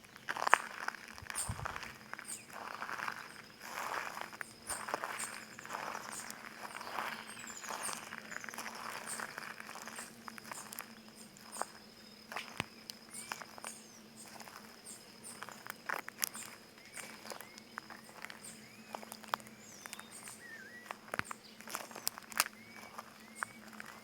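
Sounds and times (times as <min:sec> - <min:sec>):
birds chirping: 0:00.0 - 0:24.0
footsteps crunching on stone: 0:00.0 - 0:24.0
high insect trill: 0:00.0 - 0:24.0.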